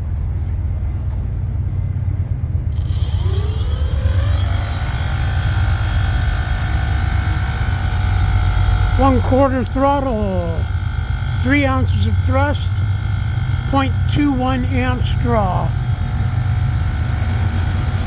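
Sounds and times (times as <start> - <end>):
electric motor spinning propeller: 2.7 - 18.0
high thin whine: 2.8 - 18.0.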